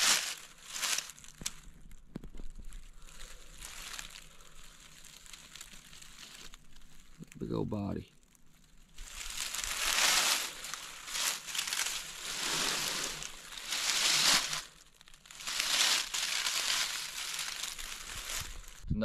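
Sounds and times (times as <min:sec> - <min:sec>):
dry leaves crunching and rustling: 0:00.0 - 0:18.8.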